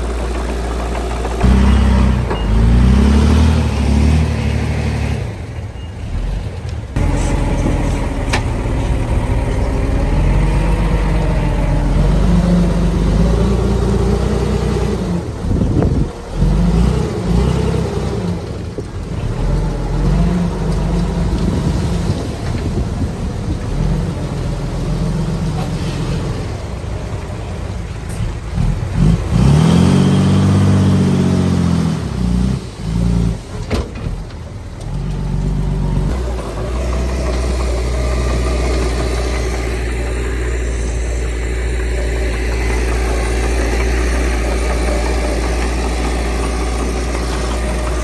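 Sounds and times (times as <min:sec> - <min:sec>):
heavy diesel engine under load: 0:00.0 - 0:48.0.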